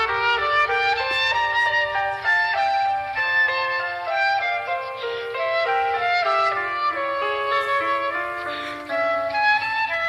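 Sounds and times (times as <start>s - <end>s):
phone ringtone melody: 0.0s - 10.0s.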